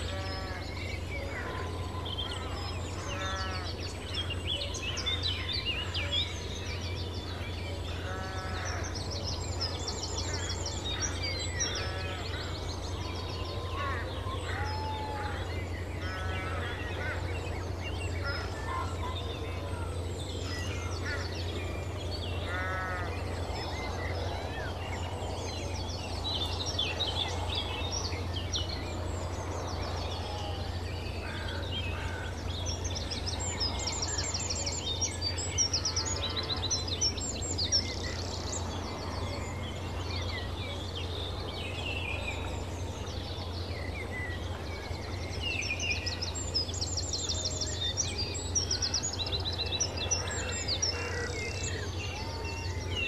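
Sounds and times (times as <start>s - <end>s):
birds chirping and trilling: 0.0s - 53.0s
steady low hum: 0.0s - 53.0s.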